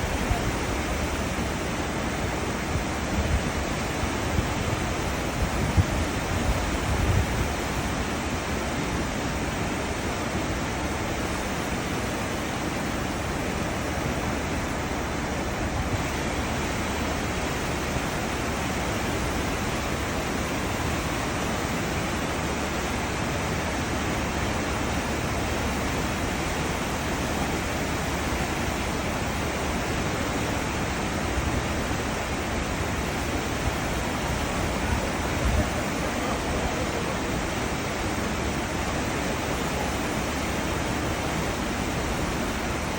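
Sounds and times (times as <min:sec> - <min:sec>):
ship wake water rushing: 0:00.0 - 0:42.9.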